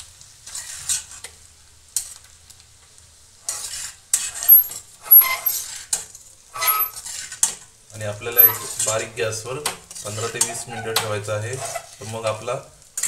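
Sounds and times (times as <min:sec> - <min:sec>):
metal spatula scraping a pan: 0:00.4 - 0:01.4, 0:03.4 - 0:13.0.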